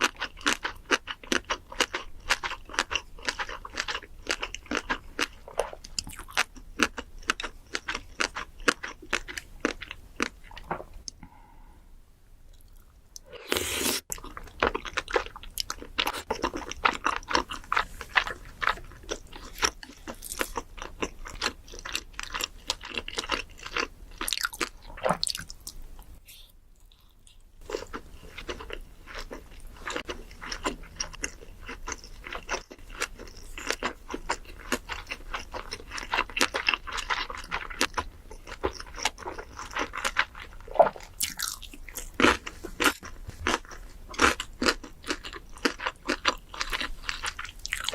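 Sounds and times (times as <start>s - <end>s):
chewing crisp food: 0.0s - 11.2s, 12.5s - 47.9s.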